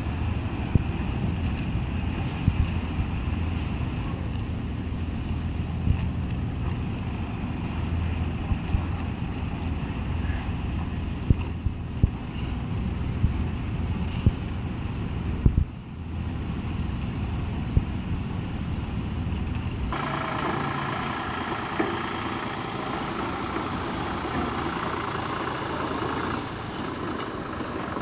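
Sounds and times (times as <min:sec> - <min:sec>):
ship engine rumbling: 0:00.0 - 0:28.0.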